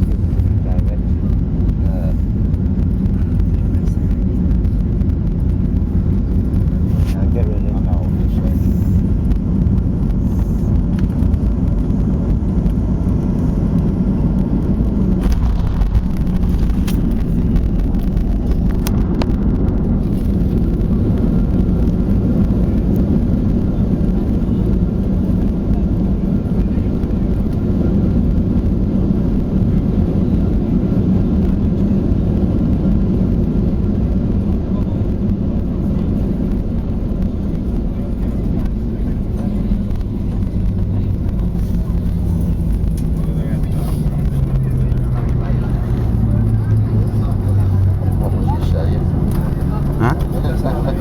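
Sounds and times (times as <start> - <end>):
jet airliner cabin rumble: 0.0 - 51.0.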